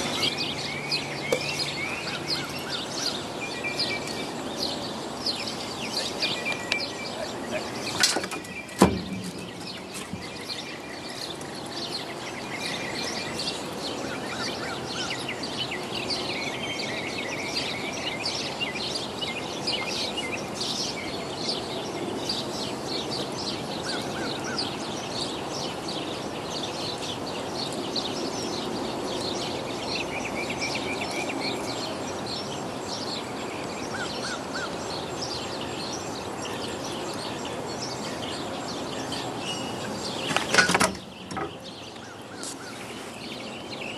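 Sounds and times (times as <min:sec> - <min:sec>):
birds chirping: 0:00.0 - 0:43.9
open-air background hiss: 0:00.0 - 0:43.9.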